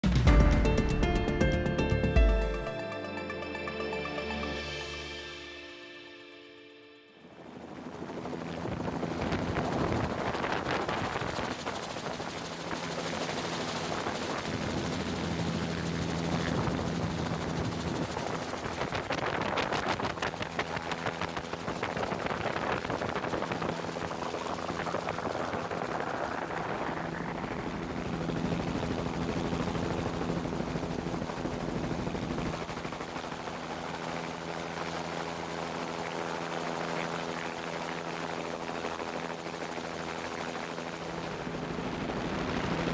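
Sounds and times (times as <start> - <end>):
aircraft engine drone: 0.0 - 42.9.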